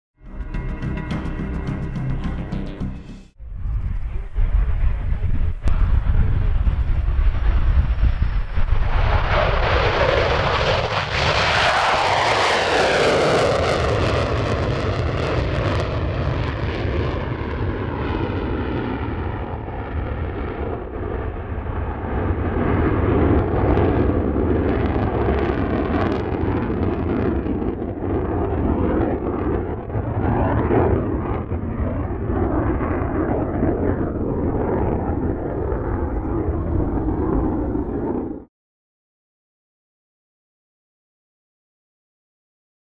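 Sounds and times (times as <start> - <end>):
jet afterburner roar: 1.6 - 38.5.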